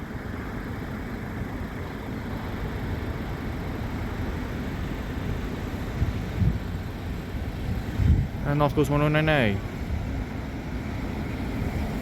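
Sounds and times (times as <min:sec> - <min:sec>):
road traffic rumble: 0:00.0 - 0:12.0
vehicle engines idling: 0:00.0 - 0:12.0.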